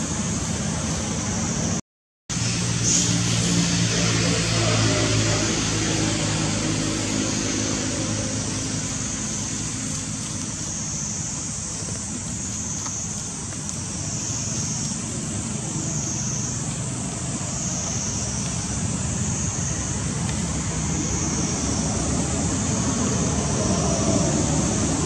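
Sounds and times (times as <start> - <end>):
steady low rumble: 0.0 - 25.0
high-pitched insect chorus: 2.4 - 25.0.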